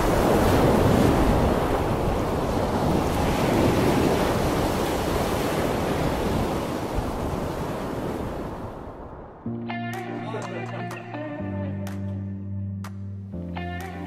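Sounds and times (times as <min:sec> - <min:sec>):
wind: 0:00.0 - 0:11.3
sea water rushing: 0:00.0 - 0:11.4.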